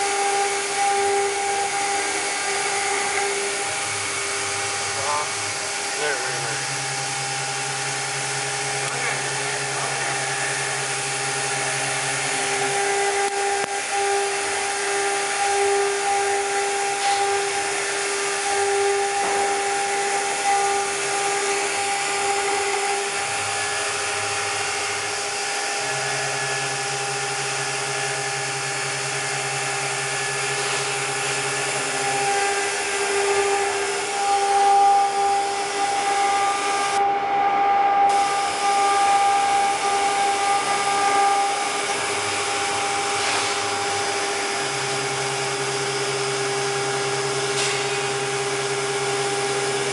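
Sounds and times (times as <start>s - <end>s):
hiss of cutting and coolant: 0.0s - 37.0s, 38.1s - 49.9s
low machine hum: 0.0s - 49.9s
spindle whine: 0.0s - 49.9s.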